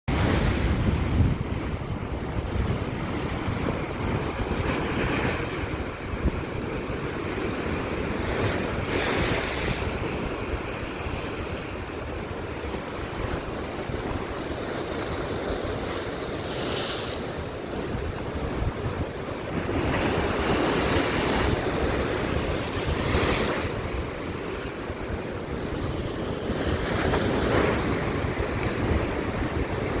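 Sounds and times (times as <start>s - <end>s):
sea waves breaking: 0.1s - 30.0s
wind rumbling on microphone: 0.1s - 30.0s.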